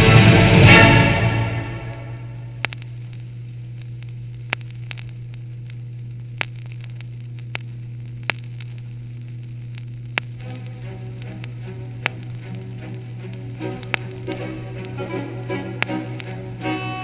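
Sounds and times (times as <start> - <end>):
steady low hum: 0.0 - 17.0
vinyl surface noise: 0.0 - 17.0
record scratch clicks: 1.8 - 17.0
faint vinyl ticks: 1.9 - 17.0.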